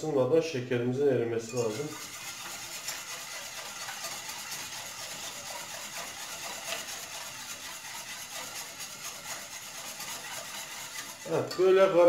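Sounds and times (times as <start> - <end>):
whisk swishing in a metal pot: 1.4 - 12.0
whisk wires tapping and scraping pot: 1.4 - 12.0.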